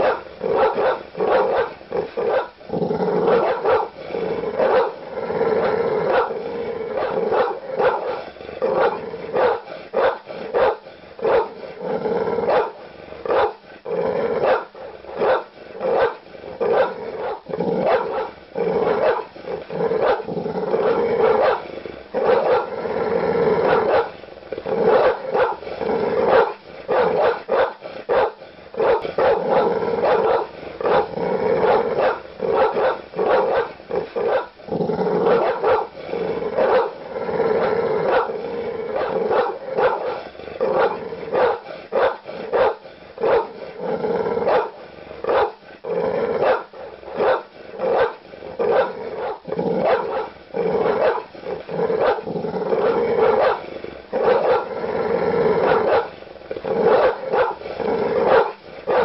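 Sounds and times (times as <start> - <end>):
large dog barking aggressively: 0.0 - 59.0.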